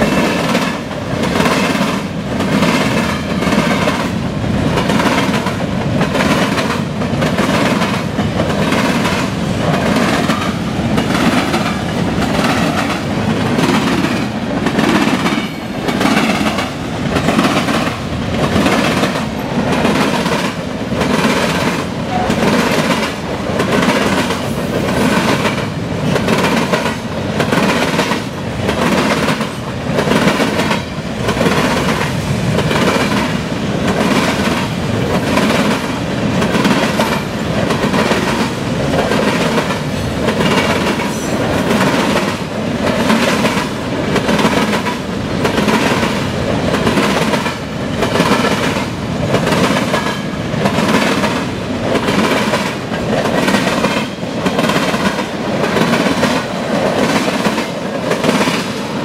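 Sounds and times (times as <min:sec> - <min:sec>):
freight train wheels clacking: 0:00.0 - 0:59.0
train rumble: 0:00.0 - 0:59.0.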